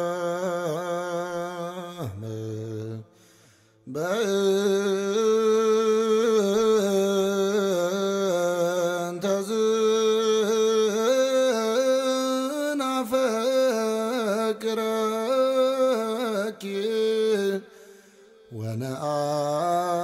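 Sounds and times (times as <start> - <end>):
person singing chant-like melody: 3.9 - 20.0.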